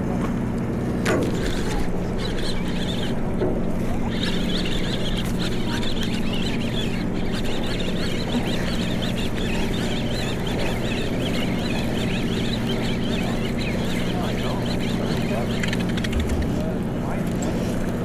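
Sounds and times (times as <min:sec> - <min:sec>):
boat engines humming: 0:00.0 - 0:18.0
birds calling: 0:01.0 - 0:18.0.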